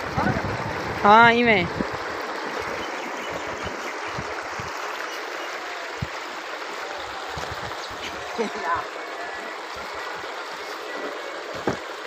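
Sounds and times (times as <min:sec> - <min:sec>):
water pouring into channel: 0:00.0 - 0:12.0.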